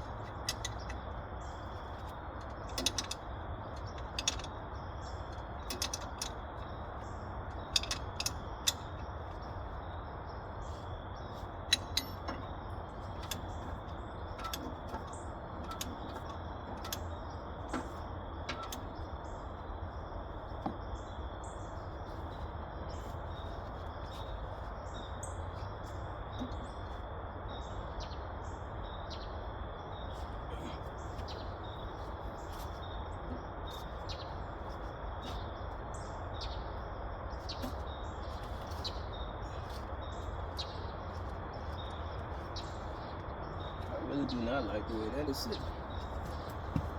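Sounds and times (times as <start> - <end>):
background hiss and rumble: 0.0 - 46.9
birds chirping: 0.0 - 46.9.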